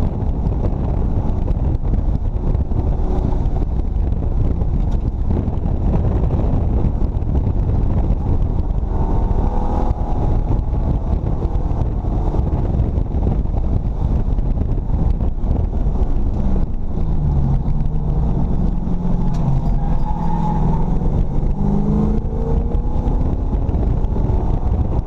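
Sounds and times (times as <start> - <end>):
race car engine running hard: 0.0 - 25.0.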